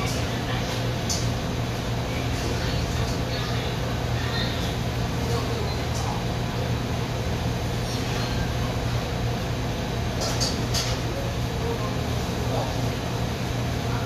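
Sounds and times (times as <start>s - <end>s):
exhaust hood fan hum: 0.0s - 14.0s.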